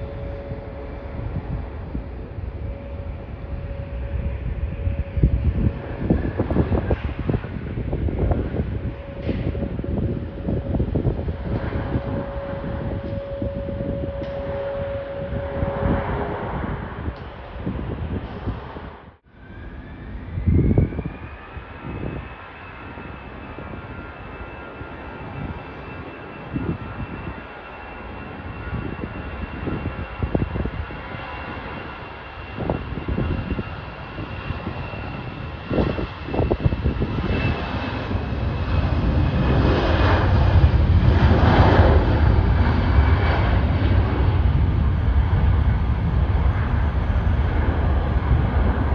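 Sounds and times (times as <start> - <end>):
jet engine low rumble: 0.0 - 48.9
jet engine whine: 0.0 - 48.9.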